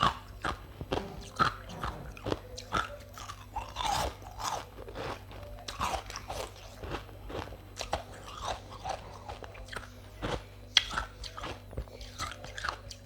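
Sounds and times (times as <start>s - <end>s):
person chewing ice: 0.0s - 13.0s.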